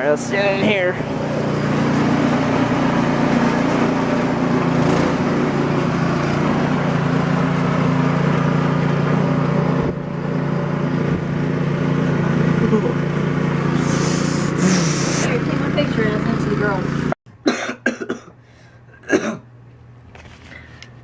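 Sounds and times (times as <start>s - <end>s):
engine idling: 0.0s - 17.2s.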